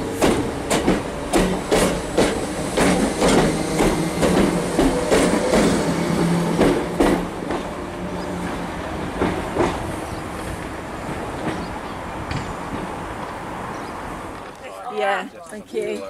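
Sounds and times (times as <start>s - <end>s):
train wheels clicking over rail joints: 0.0s - 7.8s, 8.4s - 14.5s.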